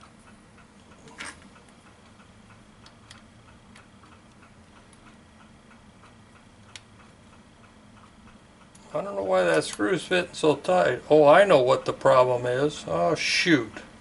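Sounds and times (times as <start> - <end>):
faint regular ticking: 0.0 - 13.9.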